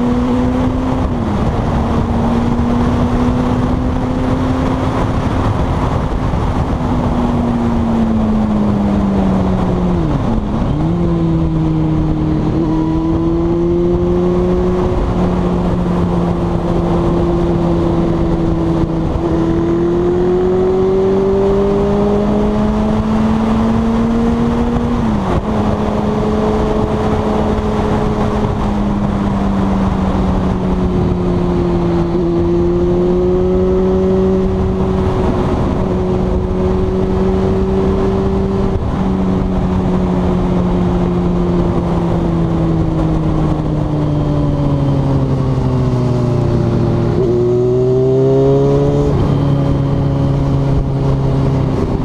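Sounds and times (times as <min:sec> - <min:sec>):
motorcycle engine under way: 0:00.0 - 0:52.0
wind rushing over microphone: 0:00.0 - 0:52.0.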